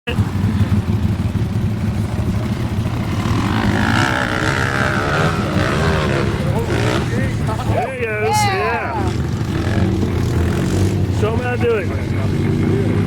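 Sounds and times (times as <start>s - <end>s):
atv engines rumbling: 0.0s - 13.0s
high engine whine: 0.1s - 13.0s.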